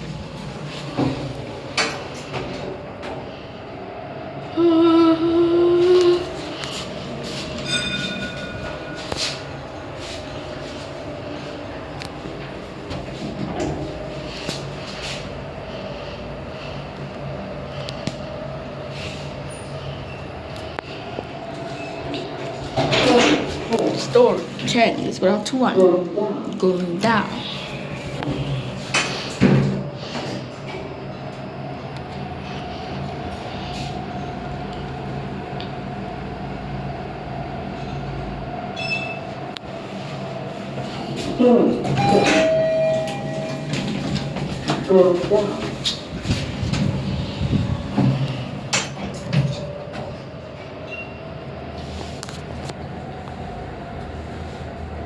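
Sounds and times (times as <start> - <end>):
lift car humming: 0.0 - 55.0.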